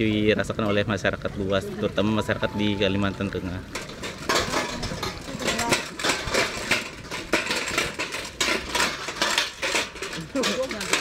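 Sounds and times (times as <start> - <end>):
paddle-wheel mechanical clatter: 1.8 - 11.0.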